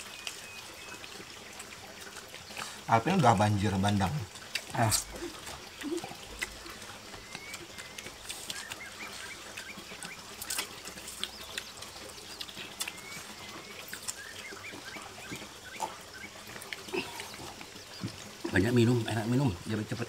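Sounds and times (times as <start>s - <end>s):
flowing water: 0.0s - 20.0s.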